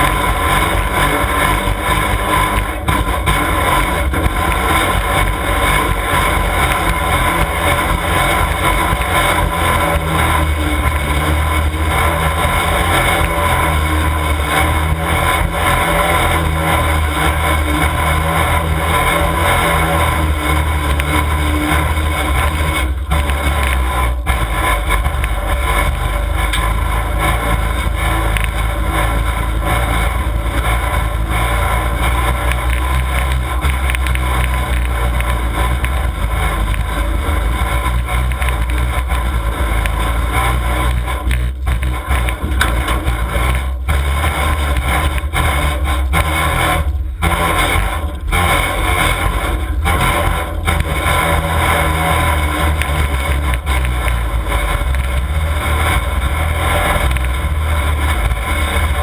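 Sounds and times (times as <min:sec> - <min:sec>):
car engines droning loudly: 0:00.0 - 0:59.0.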